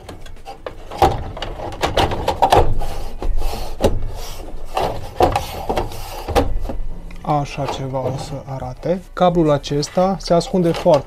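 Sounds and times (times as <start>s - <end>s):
knocks and scraping on wood: 0.0s - 8.7s, 10.4s - 11.0s.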